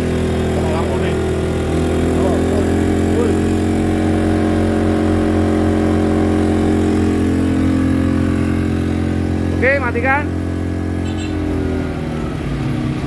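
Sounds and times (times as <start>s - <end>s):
generator engine idling: 0.0s - 12.6s.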